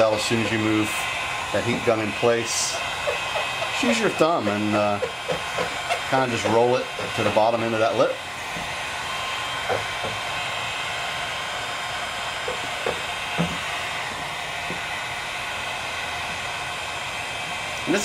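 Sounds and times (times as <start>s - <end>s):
heat gun blowing air: 0.0s - 18.0s.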